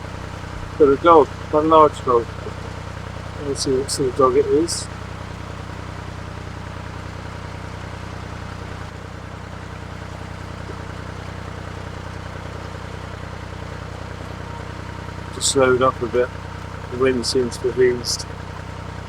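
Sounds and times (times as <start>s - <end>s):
diesel boat engine humming: 0.0s - 19.0s.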